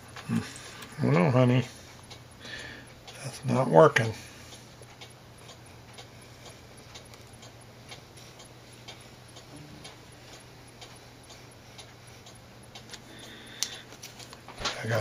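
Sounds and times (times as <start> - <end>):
clock ticking: 0.1 - 15.0.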